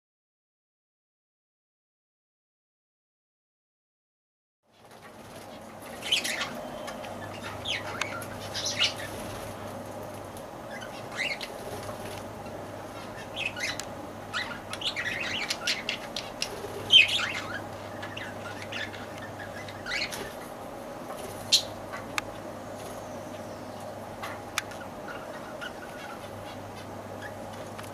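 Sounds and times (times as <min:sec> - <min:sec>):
steady hum: 0:04.7 - 0:27.9
lovebirds chirping and squawking: 0:04.8 - 0:27.9.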